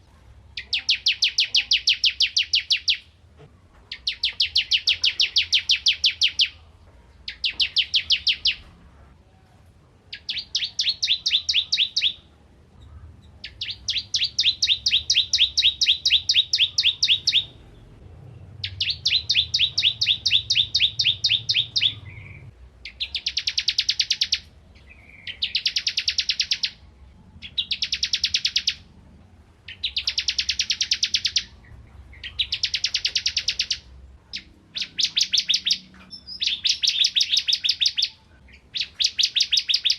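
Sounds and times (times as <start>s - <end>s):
bird singing rapid high chirps: 0.6s - 3.2s, 3.9s - 6.6s, 7.2s - 8.7s, 10.1s - 29.0s, 29.6s - 39.9s.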